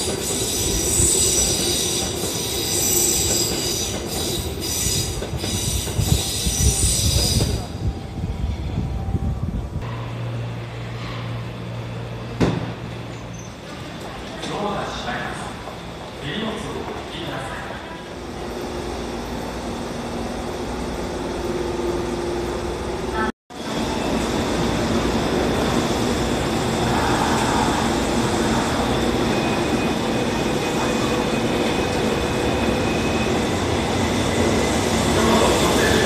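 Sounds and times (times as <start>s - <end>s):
subway train running noise: 0.0s - 36.0s
train pulling out: 0.0s - 36.0s.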